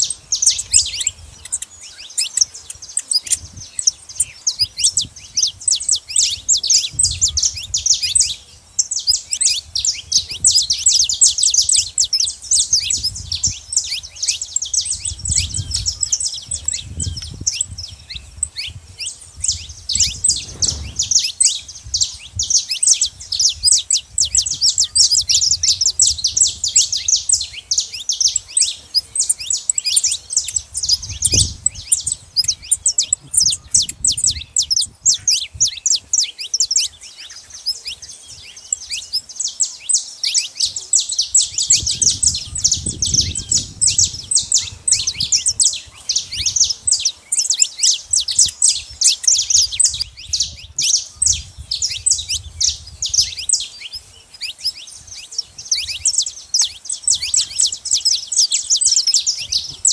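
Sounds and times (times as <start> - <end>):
finches chirping: 0.0 - 59.9.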